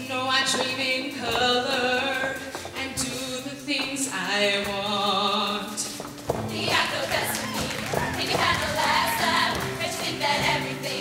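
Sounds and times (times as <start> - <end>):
backing music: 0.0 - 11.0
woman singing into microphone: 0.0 - 11.0.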